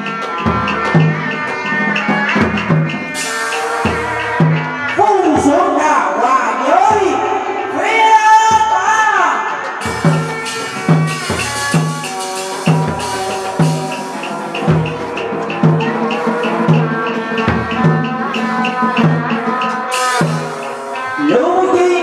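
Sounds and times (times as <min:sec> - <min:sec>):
high percussion ticks: 0:00.0 - 0:05.9, 0:07.9 - 0:22.0
drum beating: 0:00.0 - 0:22.0.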